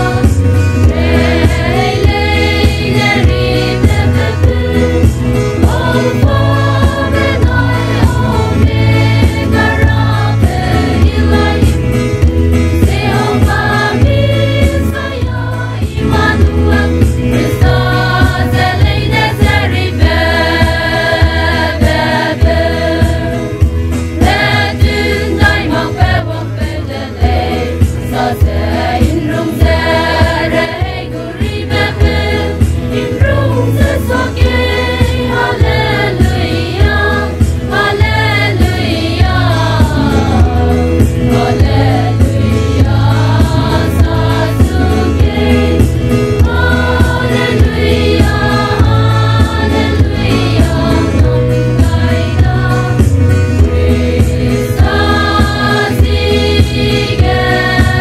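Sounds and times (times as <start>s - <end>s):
women's choir singing: 0.0s - 12.1s, 12.7s - 23.6s, 24.2s - 58.0s.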